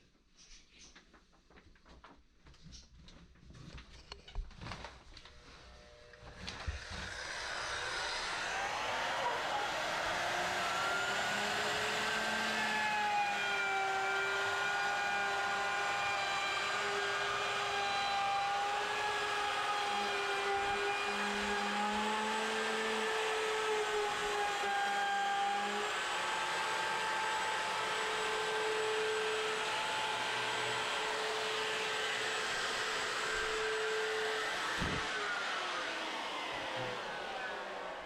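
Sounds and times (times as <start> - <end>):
electric router cutting wood: 6.0 - 38.0.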